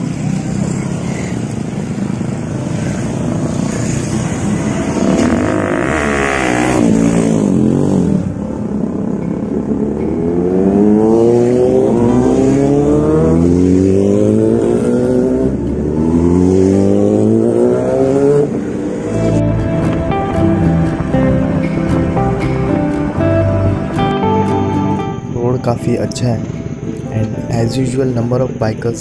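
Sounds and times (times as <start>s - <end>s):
motorcycles riding past: 0.0s - 27.6s
motorcycle engines revving: 0.0s - 29.0s.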